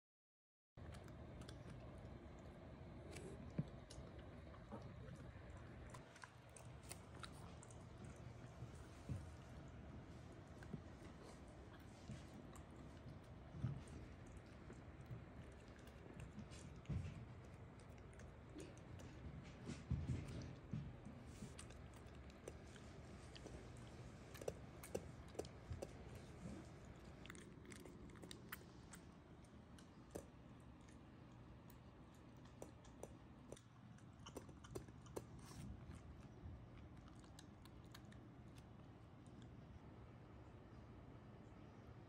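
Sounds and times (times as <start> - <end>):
dog chewing and crunching: 0.8 - 39.7.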